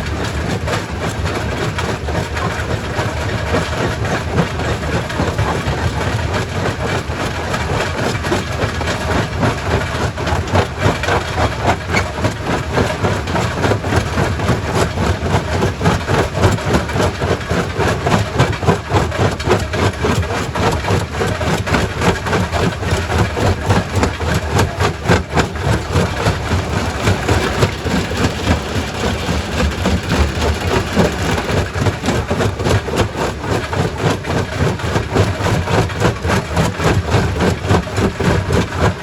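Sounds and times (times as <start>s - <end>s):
rock crusher machine drone: 0.0s - 39.0s.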